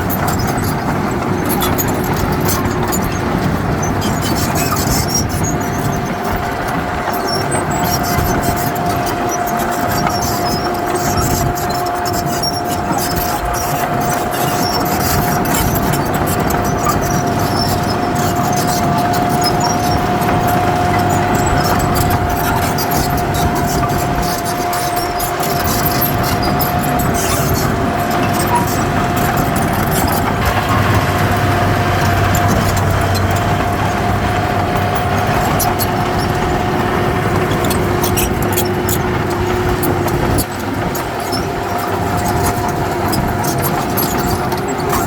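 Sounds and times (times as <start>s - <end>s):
diesel earthmoving machine engine: 0.0s - 45.0s.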